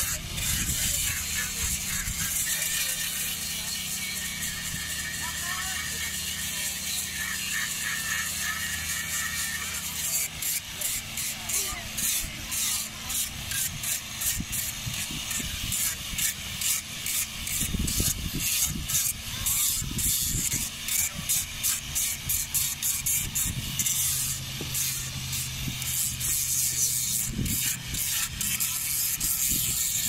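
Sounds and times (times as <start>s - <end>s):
rasping scrapes on wood: 0.0s - 30.0s.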